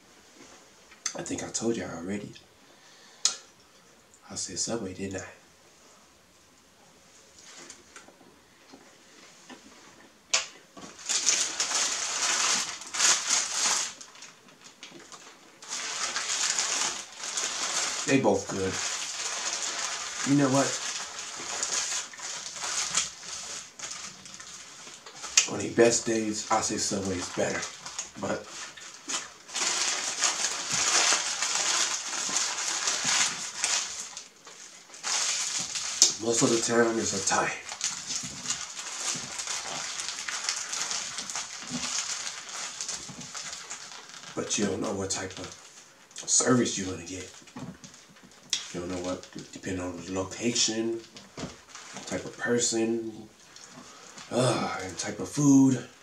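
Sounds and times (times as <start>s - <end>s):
paper wrapper crumpling: 10.9s - 56.0s.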